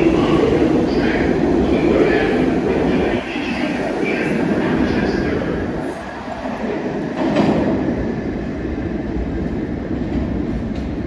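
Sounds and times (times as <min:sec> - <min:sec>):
subway train rumbling on rails: 0:00.0 - 0:11.0.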